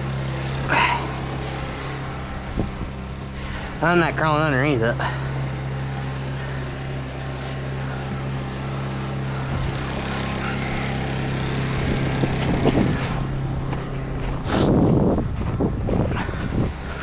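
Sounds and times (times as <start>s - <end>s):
portable generator running: 0.0s - 17.0s.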